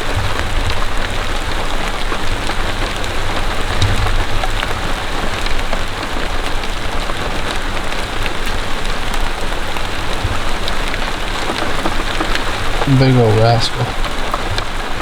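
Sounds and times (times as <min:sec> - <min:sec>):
close raindrops striking: 0:00.0 - 0:15.0
steady rain falling: 0:00.0 - 0:15.0.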